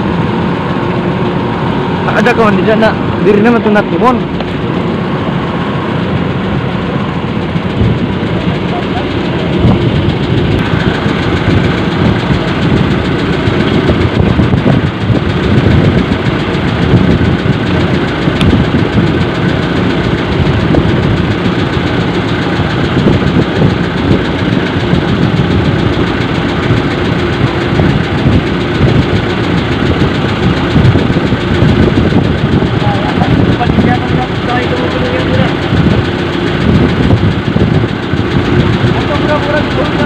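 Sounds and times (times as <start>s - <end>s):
boat engine chugging: 0.0s - 40.0s.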